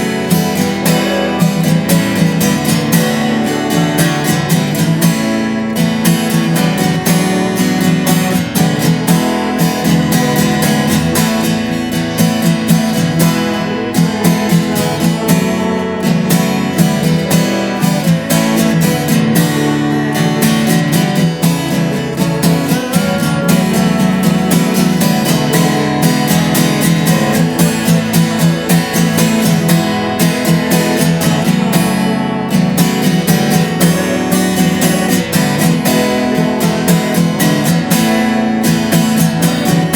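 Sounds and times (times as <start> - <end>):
strummed acoustic guitar song: 0.0 - 39.9.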